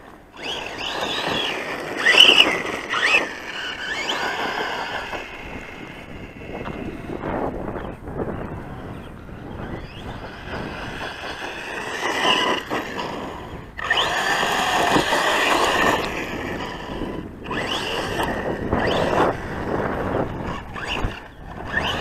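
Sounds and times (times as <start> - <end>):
electric motor whining: 0.0 - 22.0
tyres rasping on loose dirt: 0.0 - 22.0.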